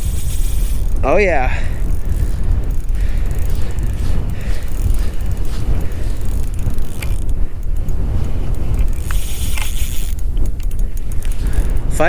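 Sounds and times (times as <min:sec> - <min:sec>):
fishing reel ratcheting and clicking: 0:00.0 - 0:12.0
wind rumble on microphone: 0:00.0 - 0:12.0.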